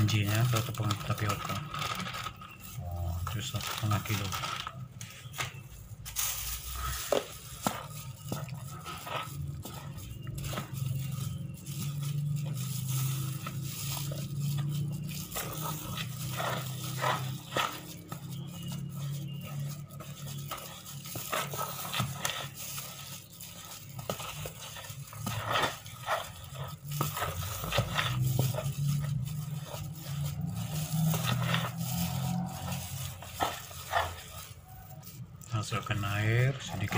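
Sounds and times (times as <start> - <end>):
spatula scraping flour in metal basin: 0.0 - 36.9.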